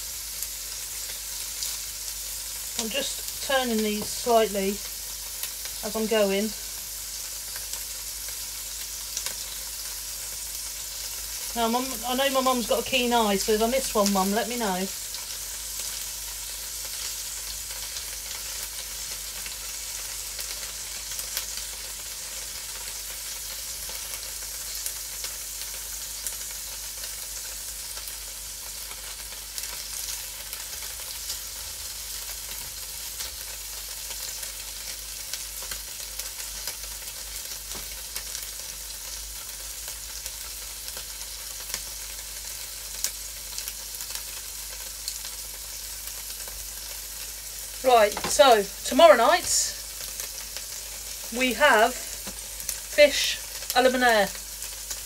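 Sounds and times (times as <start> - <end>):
tofu sizzling in a frying pan: 0.0 - 55.0.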